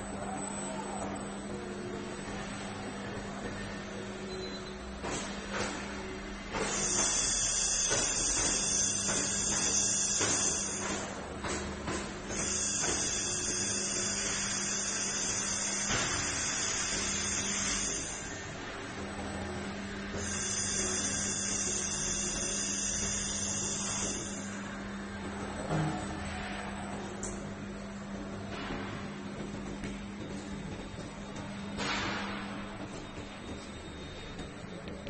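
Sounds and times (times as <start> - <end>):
welding equipment hum: 0.0 - 35.0.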